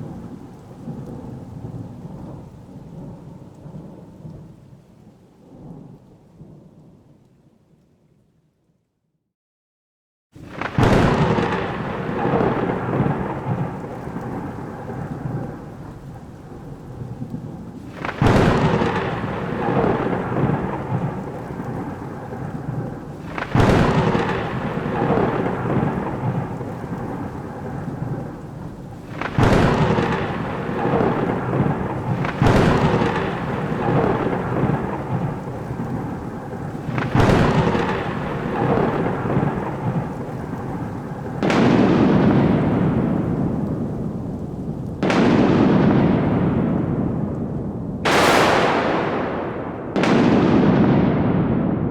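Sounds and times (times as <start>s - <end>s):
thunderclaps rumbling: 0.0s - 7.2s, 10.4s - 51.9s
heavy rain: 0.0s - 7.3s, 10.4s - 51.9s.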